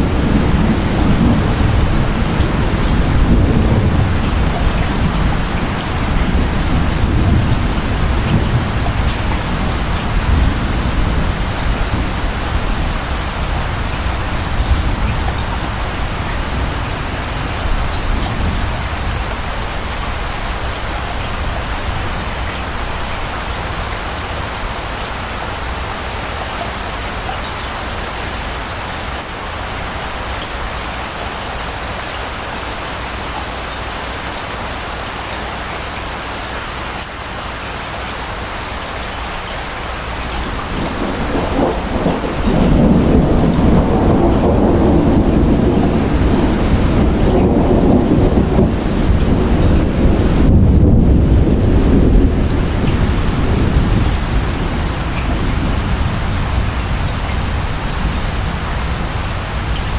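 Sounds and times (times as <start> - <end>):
distant thunder rumble: 0.0 - 30.1, 39.9 - 59.9
steady rain: 0.0 - 59.9.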